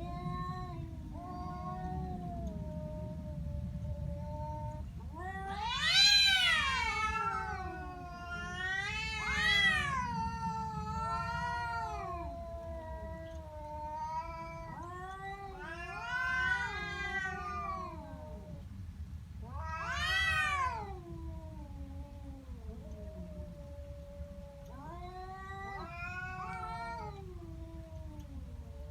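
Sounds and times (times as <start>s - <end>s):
angry cat yowling: 4.6s - 18.5s, 19.4s - 28.9s.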